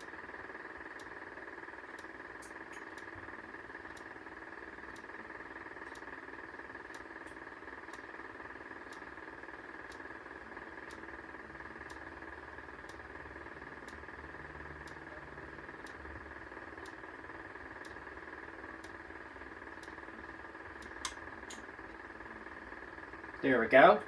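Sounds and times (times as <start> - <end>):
alert strobe ticking: 0.0 - 23.4
faint high hum: 0.0 - 24.0.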